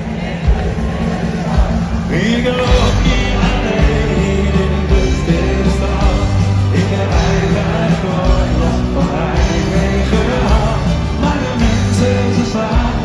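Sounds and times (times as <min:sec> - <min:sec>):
live pop-rock band music: 0:00.0 - 0:13.0.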